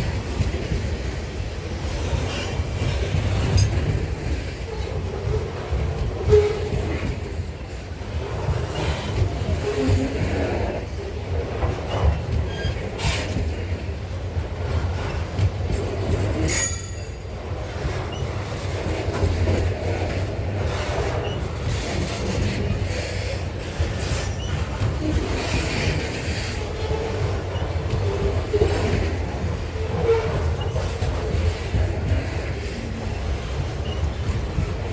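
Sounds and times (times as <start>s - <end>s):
knocks of train wagons: 0.0s - 34.9s
train wheels rumbling on rails: 0.0s - 34.9s.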